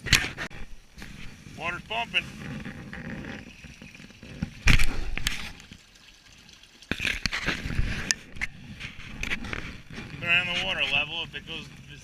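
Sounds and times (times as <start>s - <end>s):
pump discharging water: 0.0s - 12.0s.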